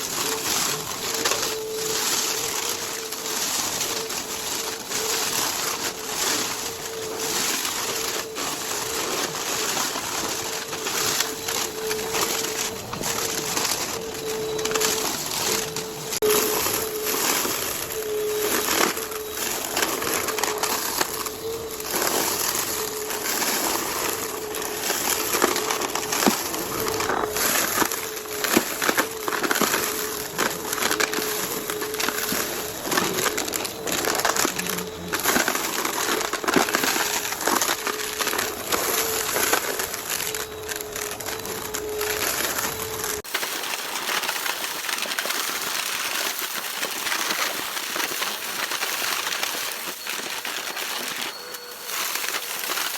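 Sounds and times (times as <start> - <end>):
vacuum cleaner motor hum: 0.0 - 43.5
debris crackling and crunching: 0.0 - 52.9.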